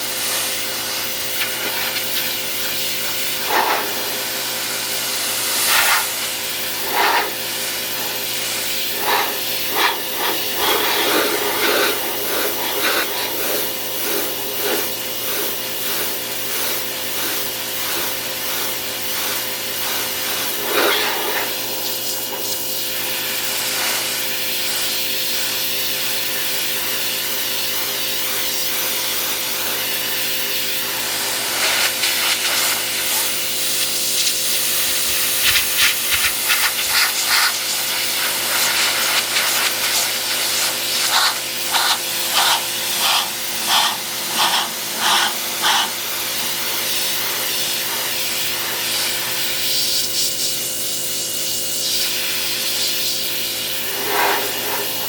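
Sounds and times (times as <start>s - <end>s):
pressure washer jet hissing: 0.0s - 55.0s.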